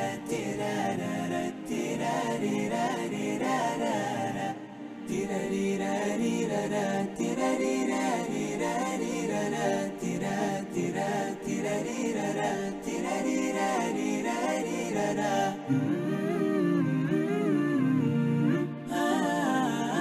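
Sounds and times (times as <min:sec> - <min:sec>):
a cappella singing: 0:00.0 - 0:20.0.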